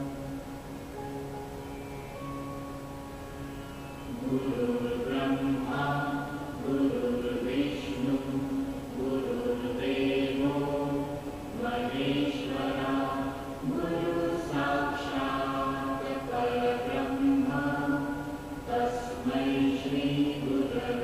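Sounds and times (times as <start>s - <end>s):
voices chanting in held notes: 3.1s - 21.0s.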